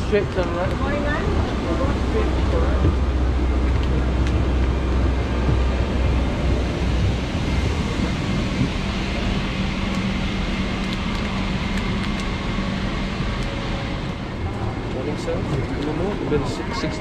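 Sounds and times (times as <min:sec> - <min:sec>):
low hum: 0:00.0 - 0:17.0
steady higher drone: 0:00.0 - 0:17.0.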